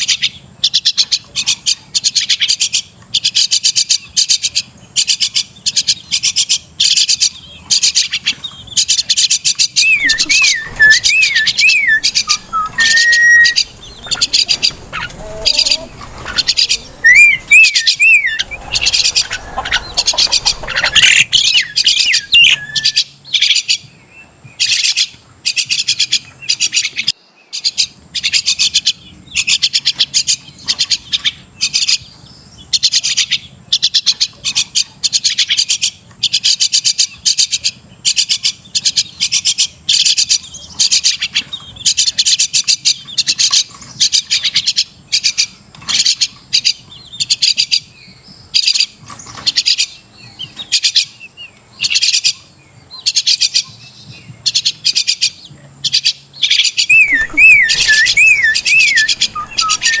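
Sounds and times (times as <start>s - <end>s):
birds whistling and chattering: 0.0s - 60.0s.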